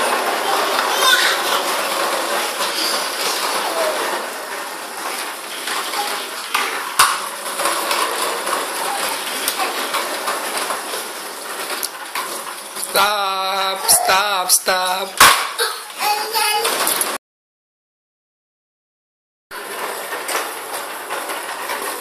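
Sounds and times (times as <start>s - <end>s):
plastic wheels rolling on tiles: 0.0s - 17.2s, 19.5s - 22.0s.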